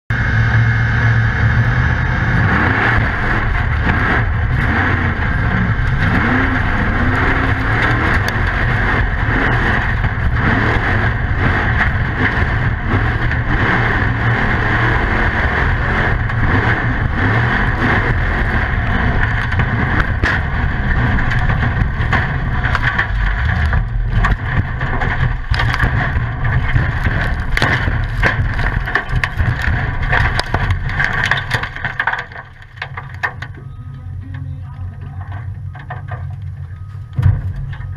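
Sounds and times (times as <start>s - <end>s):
engine at high revs: 0.1s - 32.4s
knocks and bangs of rolling car: 2.4s - 37.9s.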